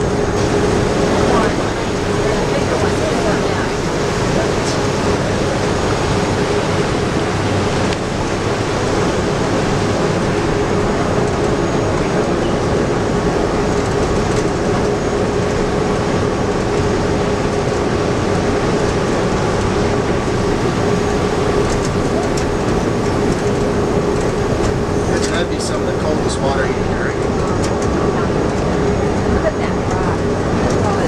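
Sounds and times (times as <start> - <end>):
cog railway train rumbling: 0.0 - 31.0.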